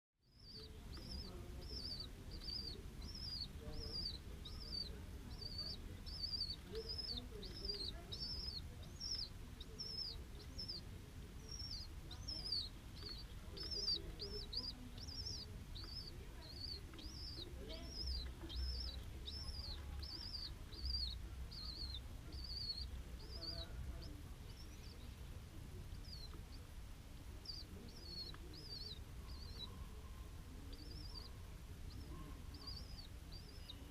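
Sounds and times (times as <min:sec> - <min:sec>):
small bird chirping: 0:00.2 - 0:33.9.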